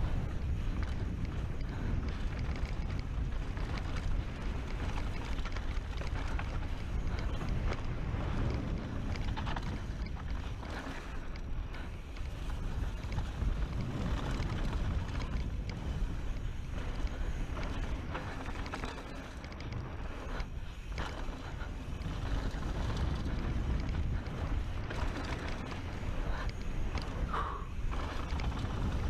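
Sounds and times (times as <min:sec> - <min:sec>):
bike rattling over bumps: 0:00.0 - 0:29.0
wind buffeting microphone: 0:00.0 - 0:29.0.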